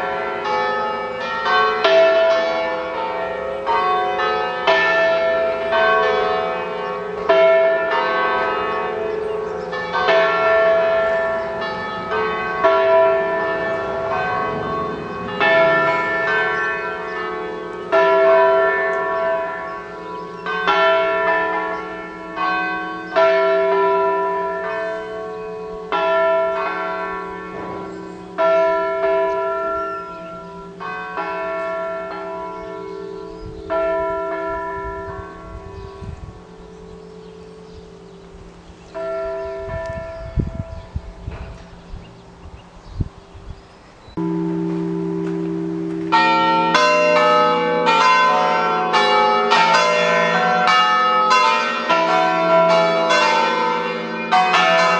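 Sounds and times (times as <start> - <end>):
church bells ringing: 0.0 - 54.9.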